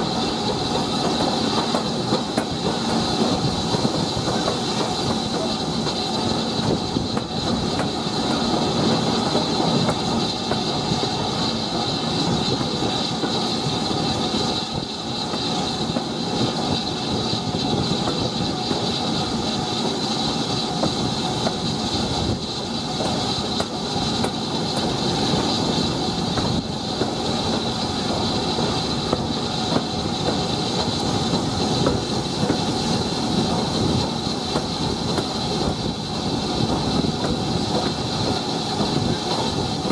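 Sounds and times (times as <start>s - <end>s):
steam hiss: 0.0s - 39.9s
train wheels rumbling on rails: 0.0s - 39.9s.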